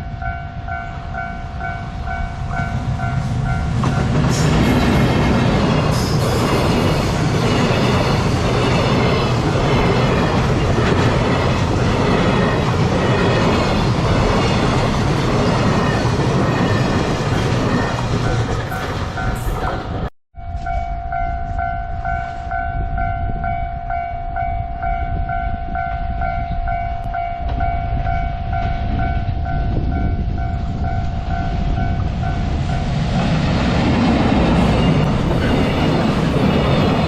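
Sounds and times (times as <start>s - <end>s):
freight train rumble and wheel noise: 0.0s - 37.0s.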